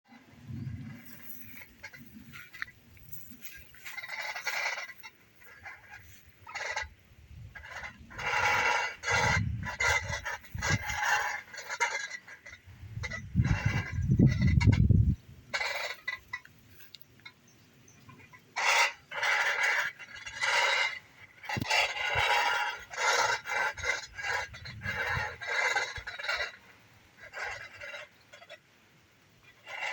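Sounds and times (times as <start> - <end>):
harsh squawking bird calls: 0.5 - 28.6.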